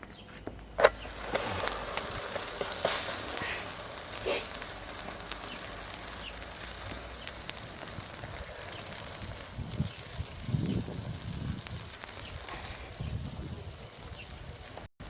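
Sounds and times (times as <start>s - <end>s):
small crackles and ticks: 0.8s - 14.9s
flatbread sizzling on a griddle: 0.9s - 15.0s.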